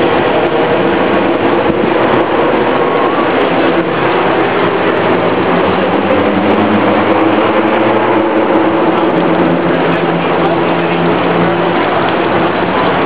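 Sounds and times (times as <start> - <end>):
low engine hum: 0.0 - 13.0
street traffic noise: 0.0 - 13.0.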